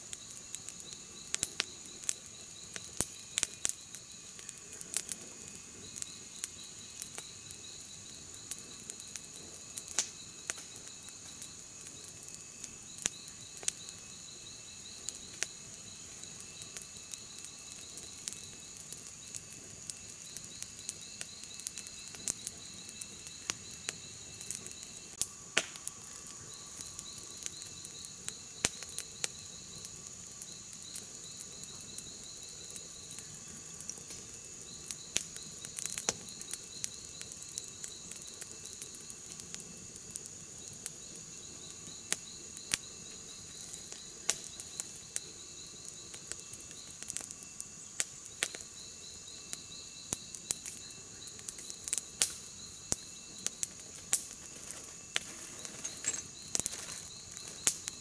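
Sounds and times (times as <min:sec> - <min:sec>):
insects trilling: 0:00.0 - 0:58.0
rapid insect chirps: 0:00.0 - 0:58.0.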